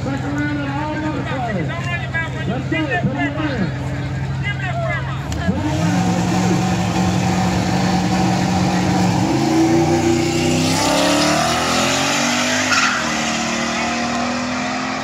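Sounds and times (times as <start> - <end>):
drag racing car engines revving: 0.0 - 15.0.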